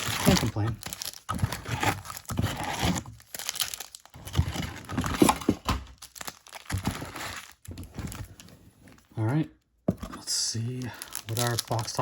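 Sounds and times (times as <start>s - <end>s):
plastic and cardboard crinkling: 0.0s - 9.3s, 9.9s - 12.0s.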